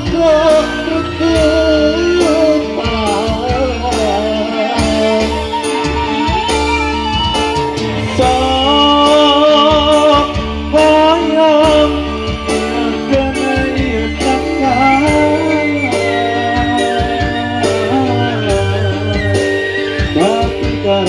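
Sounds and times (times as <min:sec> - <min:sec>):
bass line: 0:00.0 - 0:21.0
electric guitar: 0:00.0 - 0:21.0
keyboard: 0:00.0 - 0:21.0
man singing into microphone: 0:00.0 - 0:21.0
hand drums: 0:01.3 - 0:21.0.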